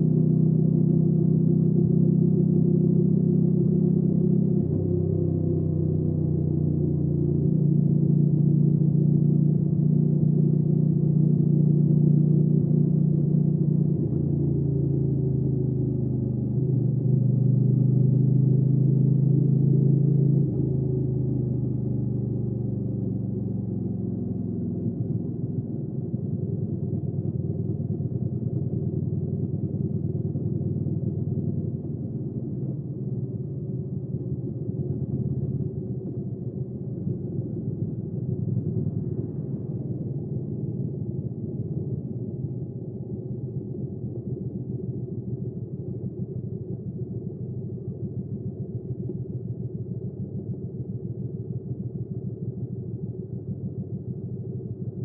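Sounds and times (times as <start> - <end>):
motorcycle engine running steadily: 0.0 - 55.0.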